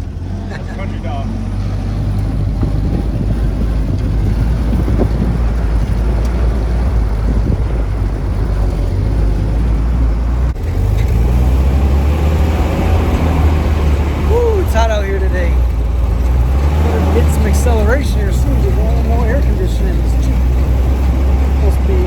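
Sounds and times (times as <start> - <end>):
car engine running: 0.0 - 22.0
wind and road noise: 0.0 - 22.0.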